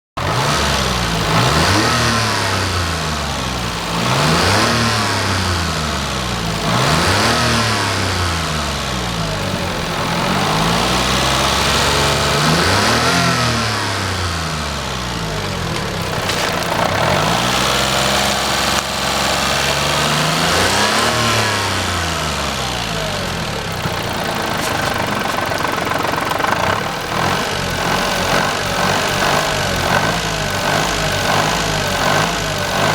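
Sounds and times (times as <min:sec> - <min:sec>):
engine idling and revving: 0:00.0 - 0:32.9.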